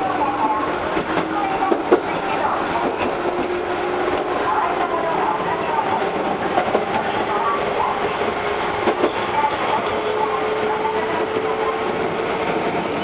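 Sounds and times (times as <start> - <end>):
railcar rolling rumble and hum: 0.0 - 13.0.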